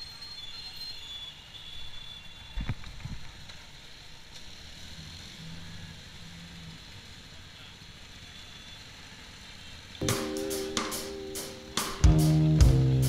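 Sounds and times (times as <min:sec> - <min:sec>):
traffic hum: 0:01.0 - 0:13.0.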